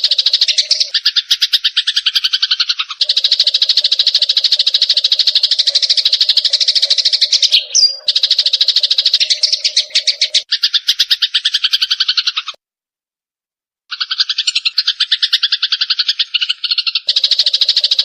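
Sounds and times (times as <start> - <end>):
sparrow chattering chirps: 0.0 - 12.6, 13.9 - 18.0.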